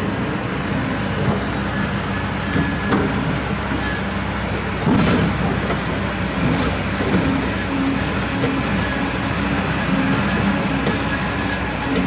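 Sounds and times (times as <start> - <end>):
excavator engine and hydraulics: 0.0 - 12.0.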